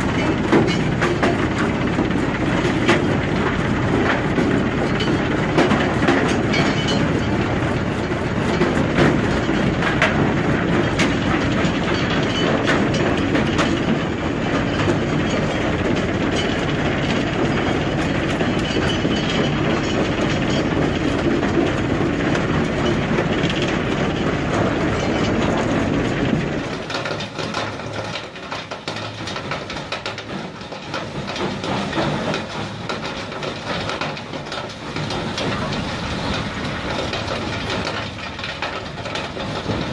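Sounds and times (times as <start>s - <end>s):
rock crusher clattering and rumbling: 0.0s - 39.9s.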